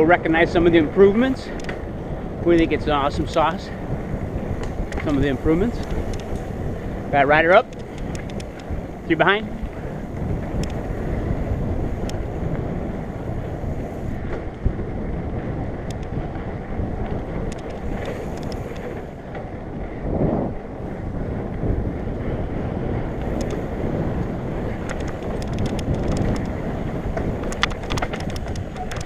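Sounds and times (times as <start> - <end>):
tyre and trail rumble: 0.0 - 29.0
wind buffeting microphone: 0.0 - 29.0
sharp clicks and rattles: 1.0 - 14.7, 15.7 - 19.5, 23.1 - 29.0.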